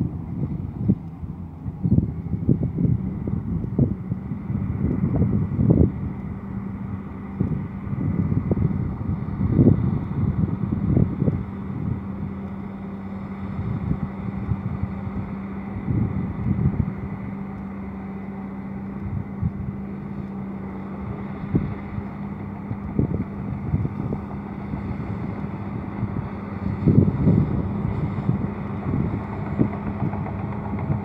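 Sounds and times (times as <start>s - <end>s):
bulldozer diesel engine under load: 0.0s - 31.0s
wind buffeting microphone: 0.0s - 31.0s.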